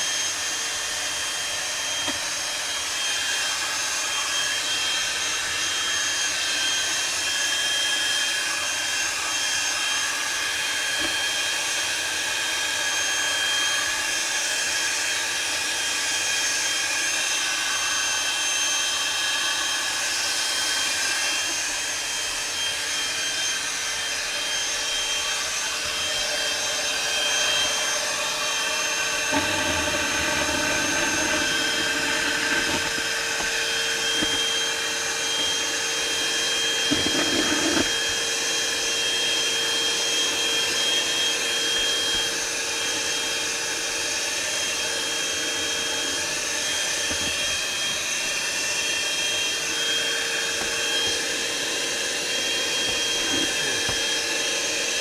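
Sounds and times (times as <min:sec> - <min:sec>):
handheld vacuum cleaner running: 0:00.0 - 0:55.0.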